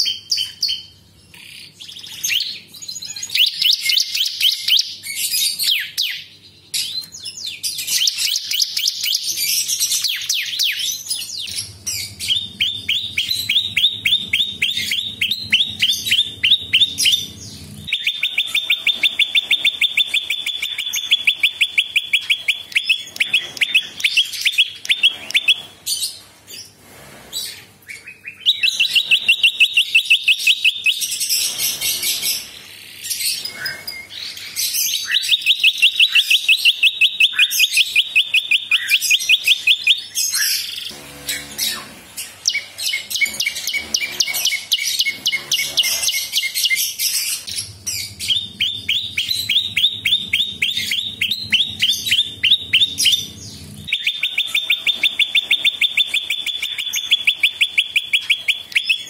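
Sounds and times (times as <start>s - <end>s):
caged bird singing high notes: 0.0s - 25.8s, 27.8s - 59.0s.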